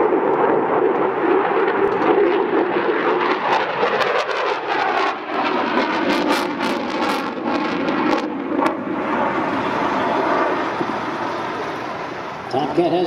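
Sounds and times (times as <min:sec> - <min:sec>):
loud jet engine noise: 0:00.0 - 0:13.0.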